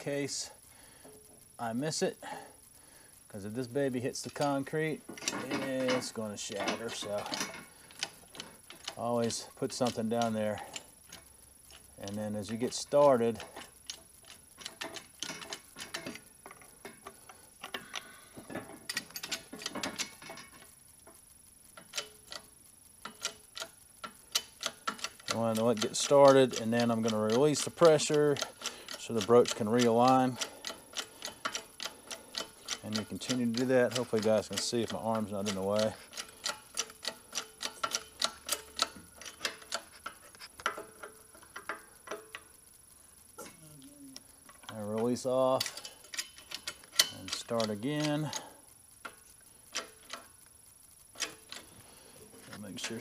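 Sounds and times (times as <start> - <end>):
sharp metallic ticks of broach cutting: 3.0 - 43.4, 44.1 - 53.0.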